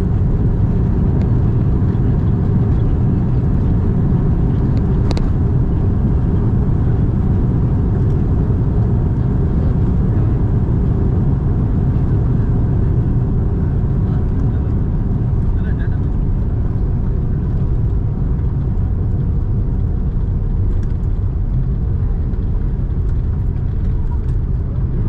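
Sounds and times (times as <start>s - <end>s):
jet engines in reverse thrust: 0.0s - 25.0s
wheels rumbling on runway: 0.0s - 25.0s.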